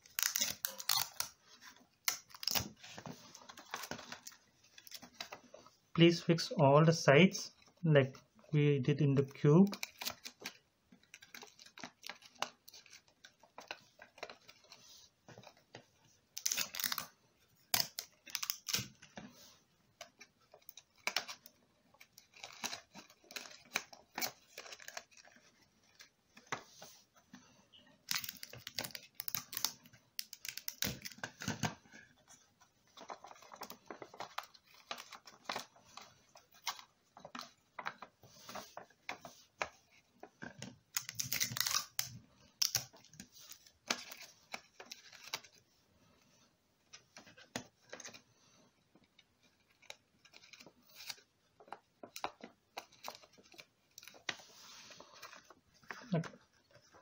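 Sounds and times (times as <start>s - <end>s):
paper rustling and crinkling: 0.0s - 6.5s, 9.7s - 57.0s.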